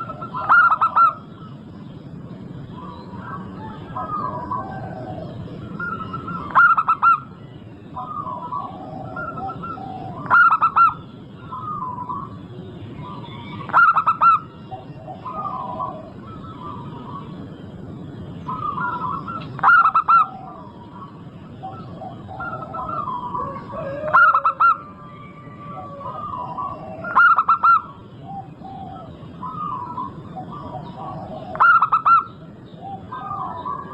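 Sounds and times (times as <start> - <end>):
dove cooing: 0.0 - 1.6, 2.7 - 17.5, 18.4 - 33.9.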